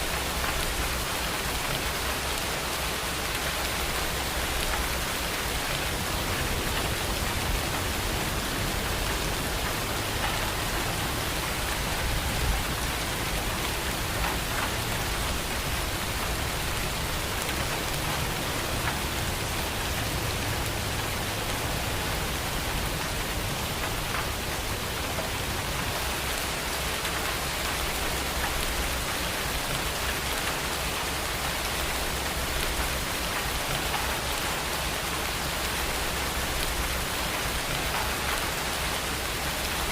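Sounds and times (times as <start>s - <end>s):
heavy rain hiss: 0.0s - 39.9s
raindrops pattering: 0.0s - 39.9s.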